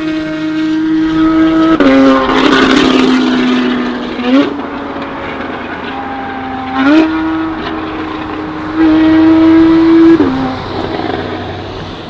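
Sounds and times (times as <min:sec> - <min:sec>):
sports car engine droning: 0:00.0 - 0:12.0.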